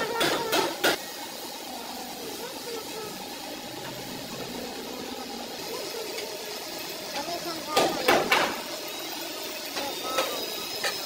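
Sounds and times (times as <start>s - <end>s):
low workshop background: 0.0s - 11.0s.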